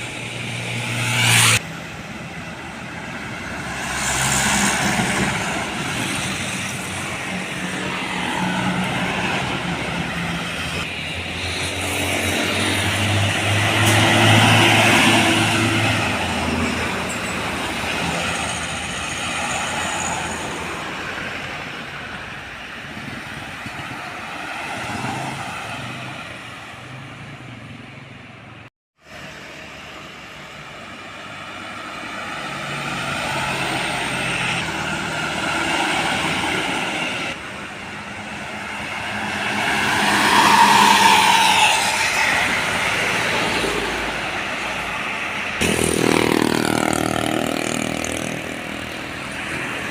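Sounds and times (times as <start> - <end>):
heavy trucks passing: 0.0 - 49.9.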